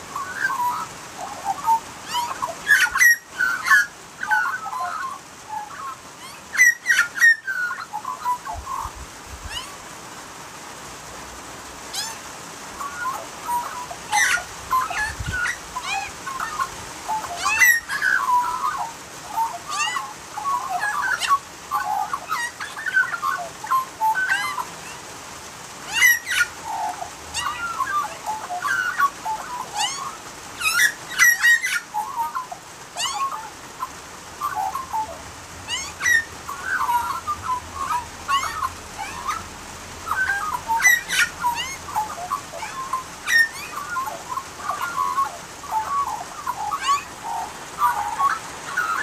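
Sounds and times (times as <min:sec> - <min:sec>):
magpies warbling: 0:00.0 - 0:09.9, 0:11.8 - 0:49.0.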